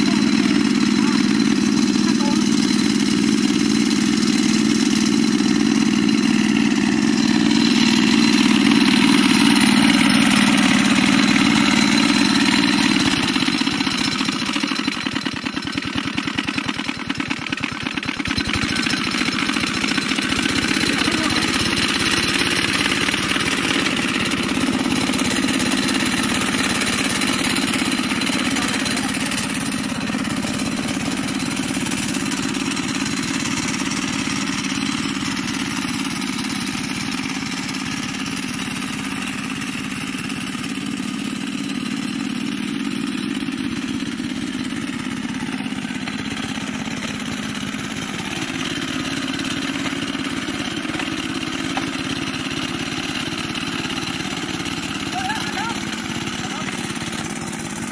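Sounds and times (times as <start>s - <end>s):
tractor engine chugging: 0.0s - 57.9s.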